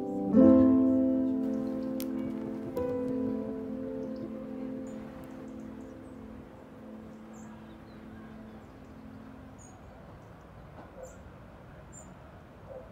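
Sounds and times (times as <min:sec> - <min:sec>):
soft background music: 0:00.0 - 0:10.4
low outdoor hiss: 0:00.0 - 0:12.9.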